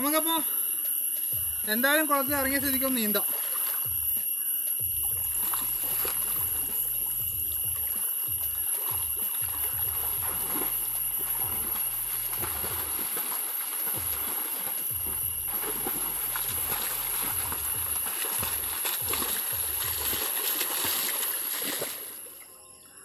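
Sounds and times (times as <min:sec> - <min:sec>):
water splashing from swimming: 0:02.5 - 0:04.2, 0:04.8 - 0:22.5.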